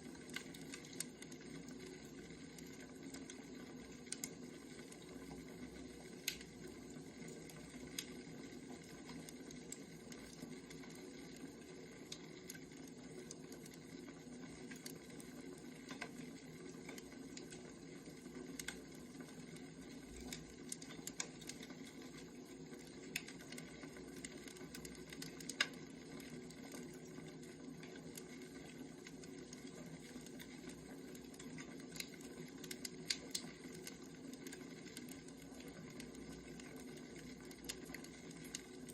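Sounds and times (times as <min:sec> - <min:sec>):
firewood crackling: 0:00.0 - 0:38.9.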